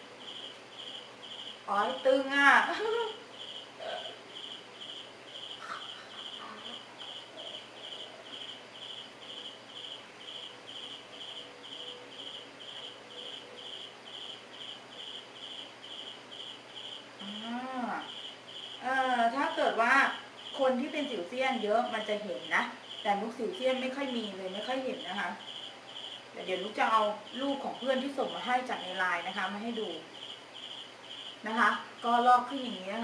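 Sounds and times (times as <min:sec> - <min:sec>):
cricket chirping: 0:00.0 - 0:33.0.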